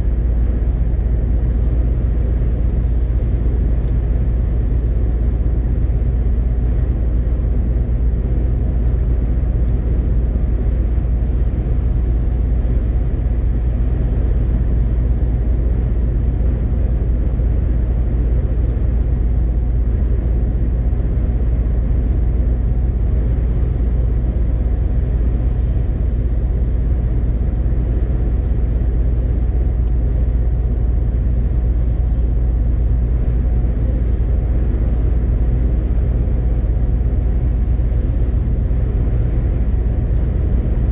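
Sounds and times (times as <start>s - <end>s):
truck diesel engine rumble: 0.0s - 40.9s.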